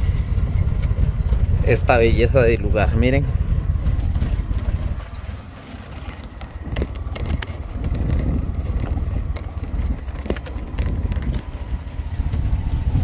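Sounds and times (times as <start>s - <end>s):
engine and road rumble: 0.0s - 13.0s
wind buffeting microphone: 0.0s - 13.0s.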